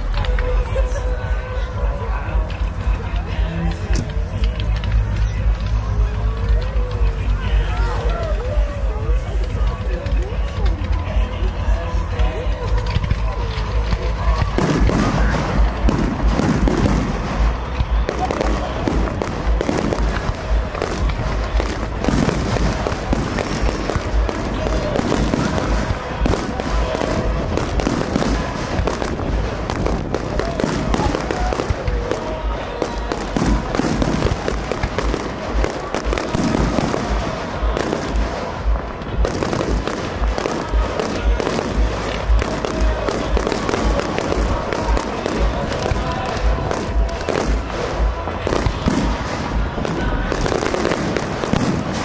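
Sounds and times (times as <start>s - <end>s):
fireworks crackling and banging: 0.0s - 52.0s
music playing: 0.0s - 52.0s.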